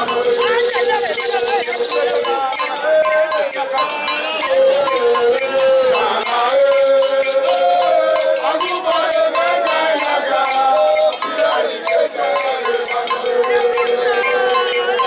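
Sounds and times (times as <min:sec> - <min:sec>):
crowd singing in chorus: 0:00.0 - 0:15.0.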